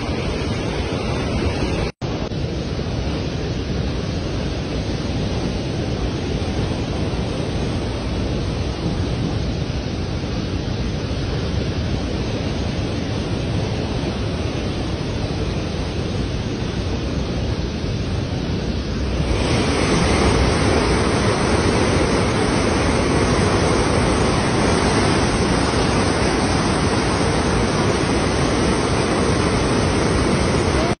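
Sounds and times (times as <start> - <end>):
floodwater rushing down river: 0.0 - 2.0, 4.2 - 31.0.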